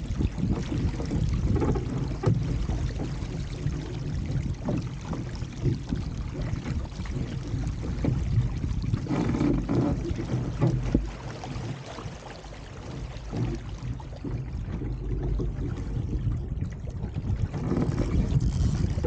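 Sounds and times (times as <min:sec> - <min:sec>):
water slapping against boat hull: 0:00.0 - 0:19.0
wind buffeting microphone: 0:00.0 - 0:19.0.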